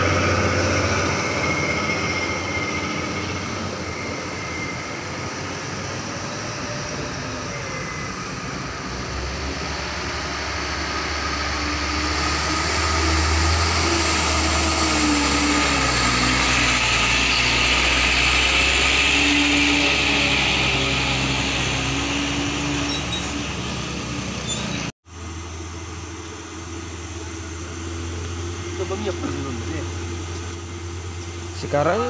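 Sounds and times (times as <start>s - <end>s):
diesel truck driving past: 0.0s - 32.0s.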